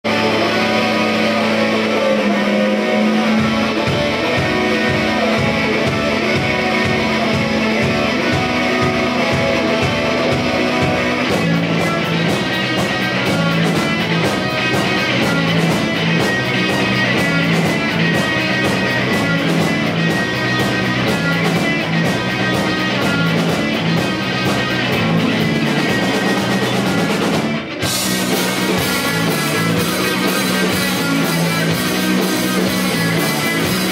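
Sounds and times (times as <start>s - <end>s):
bass guitar: 0.0s - 33.9s
drums: 0.0s - 33.9s
electric guitar: 0.0s - 33.9s.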